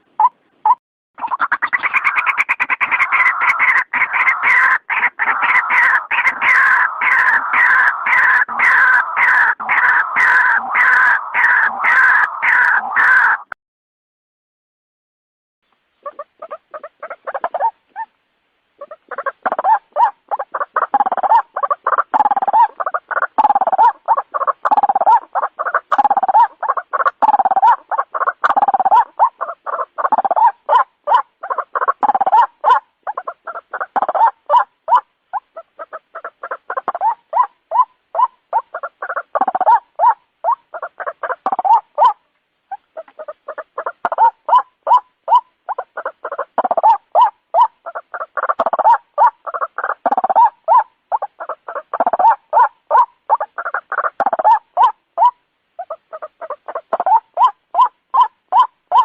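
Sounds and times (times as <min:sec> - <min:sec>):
waterhen calling: 0:00.0 - 0:13.6, 0:16.0 - 0:59.0.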